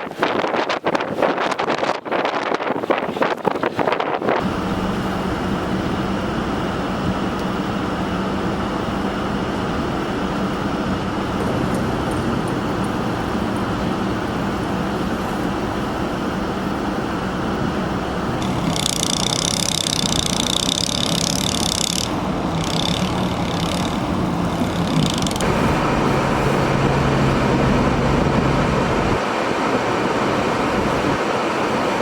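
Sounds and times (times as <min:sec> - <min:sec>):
vehicle engine running: 0:04.4 - 0:32.0.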